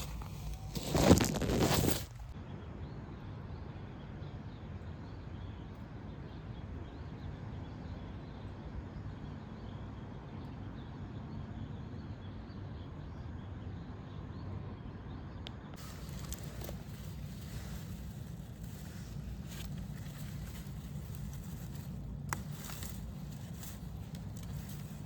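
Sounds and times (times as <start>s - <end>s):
low background rumble: 2.1s - 25.0s.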